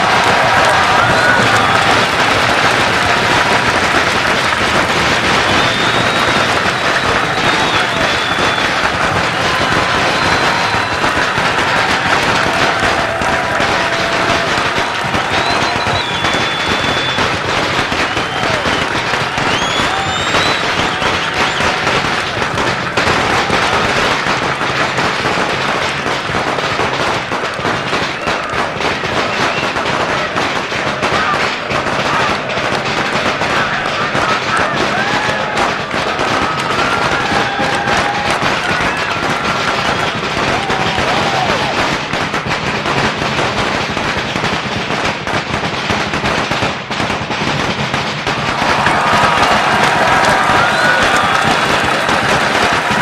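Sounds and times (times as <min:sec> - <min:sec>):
firecrackers crackling: 0:00.0 - 0:53.0.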